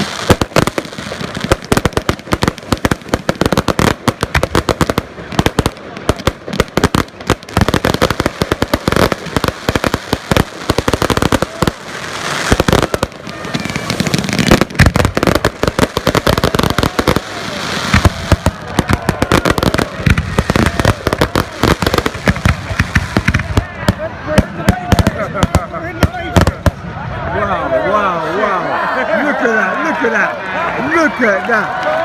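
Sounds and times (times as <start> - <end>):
fireworks bangs and crackles: 0.0 - 28.2.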